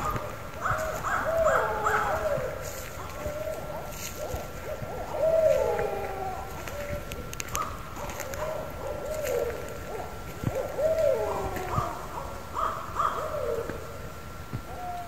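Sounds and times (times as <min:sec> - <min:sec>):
hoot-like animal calls: 0:00.0 - 0:14.0, 0:14.7 - 0:15.0
wavering animal calls: 0:00.0 - 0:14.0.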